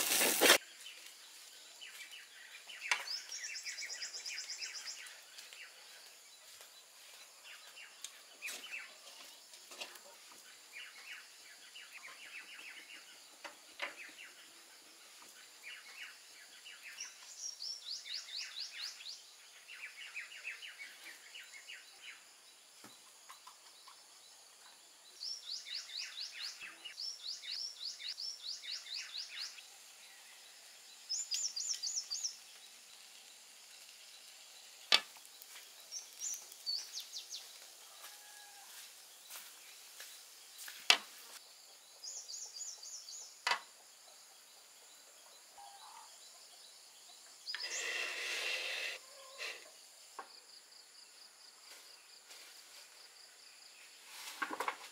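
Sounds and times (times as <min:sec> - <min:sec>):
small birds chirping and trilling: 0:00.0 - 0:52.5.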